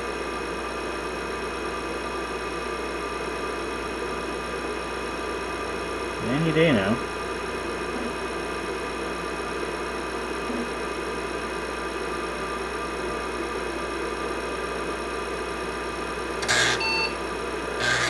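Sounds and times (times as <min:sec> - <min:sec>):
computer fan and disk whir: 0:00.0 - 0:18.0.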